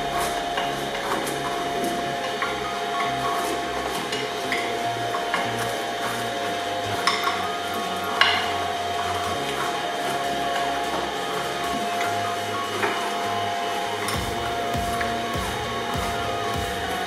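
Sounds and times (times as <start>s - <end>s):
shredder motor hum: 0.0s - 17.0s.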